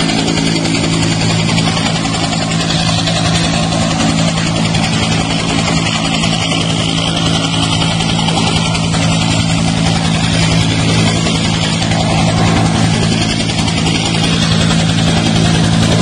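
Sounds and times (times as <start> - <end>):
engine running steadily: 0.0 - 16.0
wash of noise: 0.0 - 16.0.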